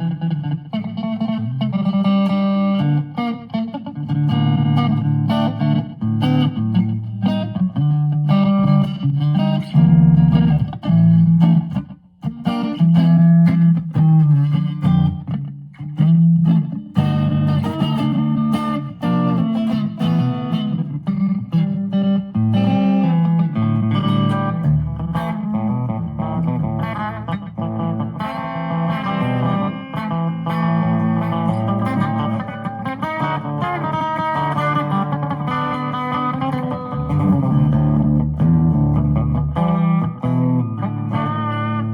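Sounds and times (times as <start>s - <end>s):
twangy electric guitar: 0.0s - 41.9s.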